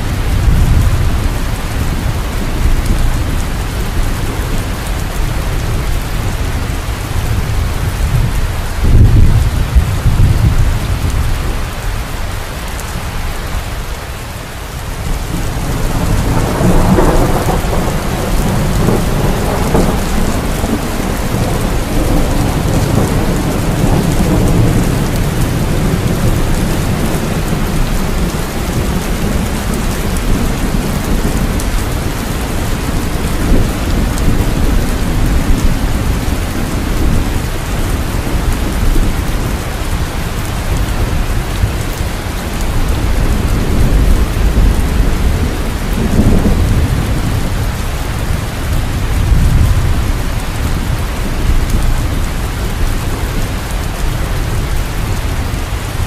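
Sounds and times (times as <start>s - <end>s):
rolling thunder: 0.0s - 11.8s, 14.9s - 56.0s
heavy rain: 0.0s - 56.0s.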